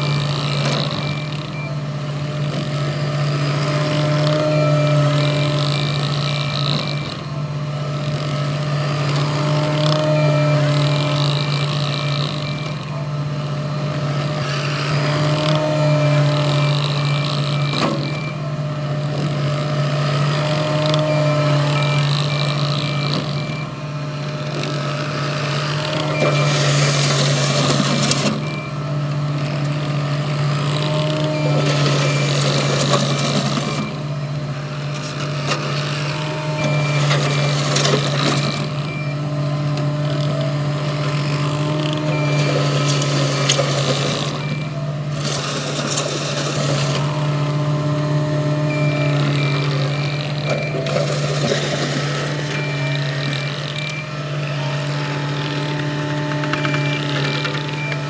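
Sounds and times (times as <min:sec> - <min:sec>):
diesel engine running: 0:00.0 - 0:58.0
reversing alarm beeping: 0:00.0 - 0:58.0
tracks and bucket scraping gravel: 0:00.0 - 0:58.0.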